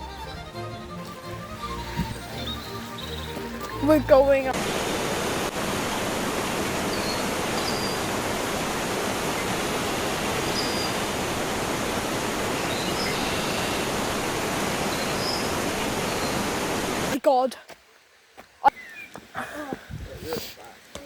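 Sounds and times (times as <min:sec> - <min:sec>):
waterfall rushing: 0:00.0 - 0:17.5.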